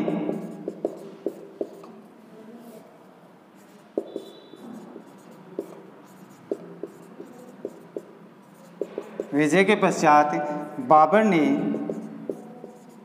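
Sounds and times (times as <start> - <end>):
marker pen on whiteboard: 0.0 - 2.9, 3.5 - 13.0.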